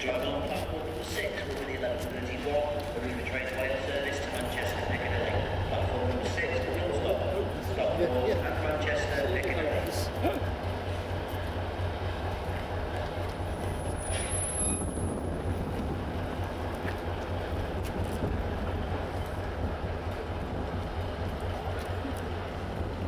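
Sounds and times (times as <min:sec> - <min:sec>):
diesel locomotive engine humming: 0:00.0 - 0:23.0.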